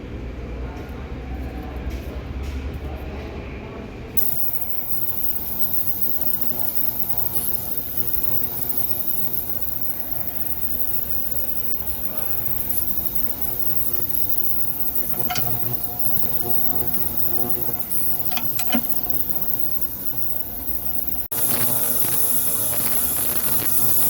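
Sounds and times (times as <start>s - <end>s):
ultrasonic cleaner humming: 4.2s - 24.0s.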